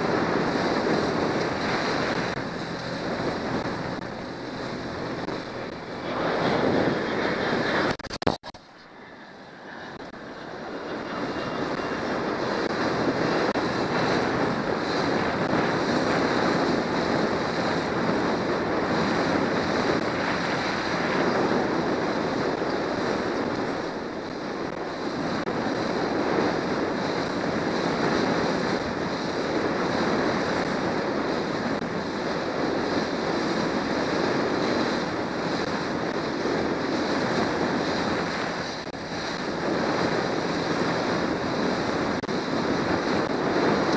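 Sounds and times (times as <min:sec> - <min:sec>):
outboard motor running: 0:00.0 - 0:43.9
water rushing past hull: 0:00.0 - 0:43.9
wind buffeting microphone: 0:00.0 - 0:43.9.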